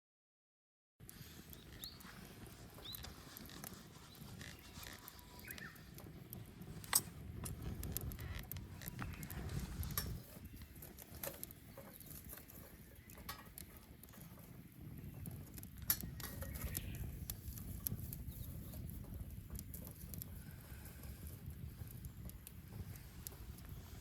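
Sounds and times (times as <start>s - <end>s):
burning wood popping: 1.0s - 24.0s
low rumble of flames: 1.0s - 24.0s.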